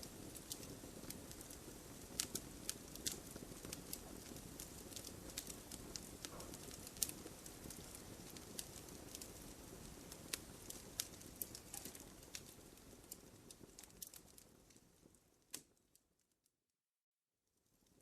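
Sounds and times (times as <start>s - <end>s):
low rush of burning: 0.0s - 15.2s
sharp pops of fire: 0.0s - 15.8s
wood fire crackling: 0.0s - 16.5s, 17.6s - 18.0s.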